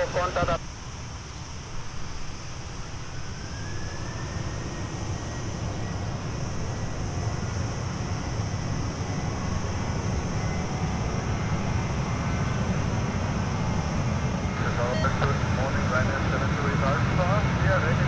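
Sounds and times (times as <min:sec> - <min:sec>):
jet engine whine: 0:00.0 - 0:18.0
jet engines rumbling: 0:00.0 - 0:18.0.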